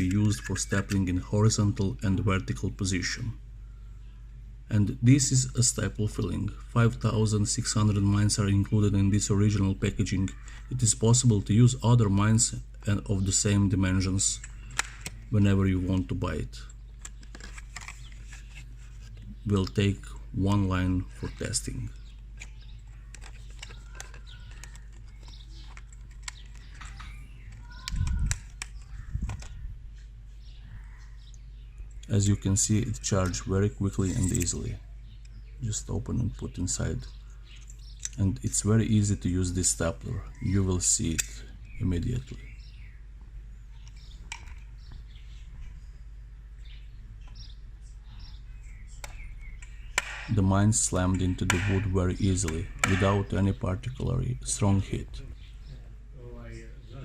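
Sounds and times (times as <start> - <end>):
low steady hum: 0.0 - 57.0
small birds chirping: 0.0 - 57.0.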